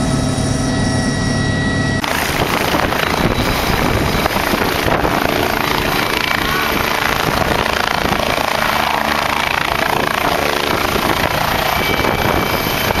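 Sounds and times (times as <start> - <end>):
helicopter engine and rotor: 0.0 - 13.0
wind rushing on microphone: 2.0 - 13.0.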